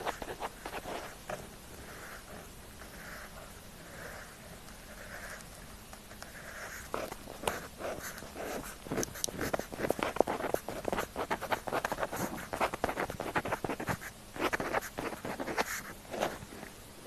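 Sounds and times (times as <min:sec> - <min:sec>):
pen scratching on paper: 0:00.0 - 0:16.7.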